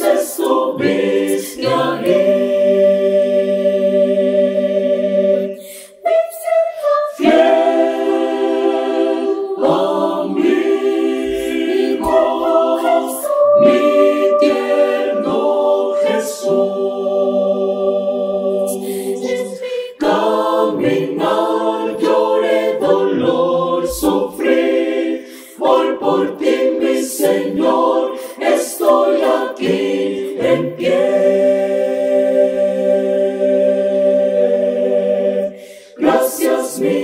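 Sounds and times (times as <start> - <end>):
mixed choir singing a cappella: 0.0 - 37.0.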